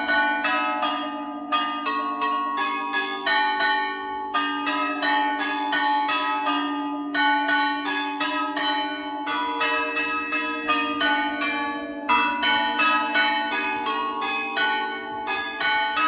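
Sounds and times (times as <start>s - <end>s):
large bell humming: 0.0s - 16.0s
small church bells struck: 0.0s - 16.0s.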